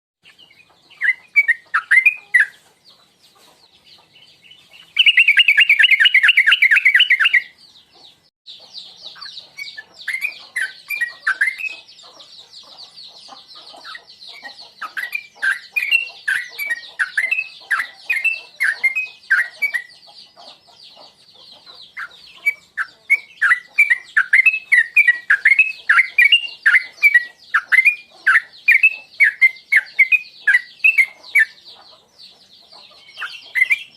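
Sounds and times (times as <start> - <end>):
bird chirping: 0.2 - 33.9
bird rapid chatter: 0.3 - 7.6, 8.6 - 33.9.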